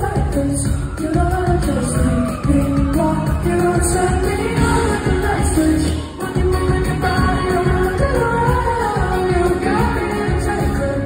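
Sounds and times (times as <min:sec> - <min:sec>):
live pop band playing: 0:00.0 - 0:11.0
male singer: 0:00.0 - 0:11.0.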